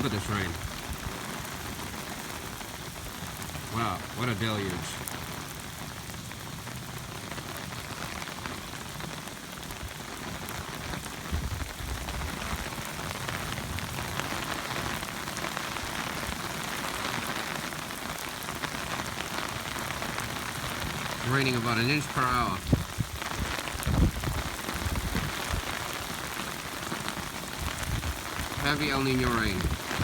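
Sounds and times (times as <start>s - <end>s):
heavy rain on umbrella: 0.0s - 30.0s.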